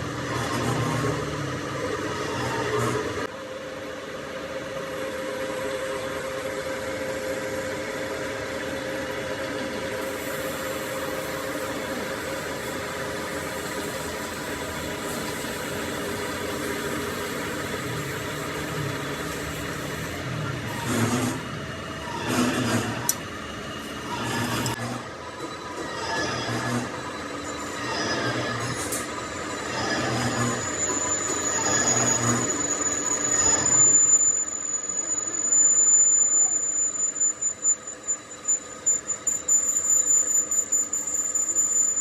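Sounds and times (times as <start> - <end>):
machine tool whining: 5.0 - 42.0.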